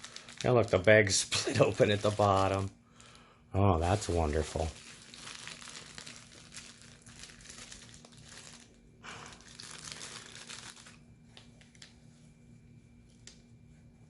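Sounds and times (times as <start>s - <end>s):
plastic bag crinkling: 0.0s - 3.2s, 3.8s - 11.9s.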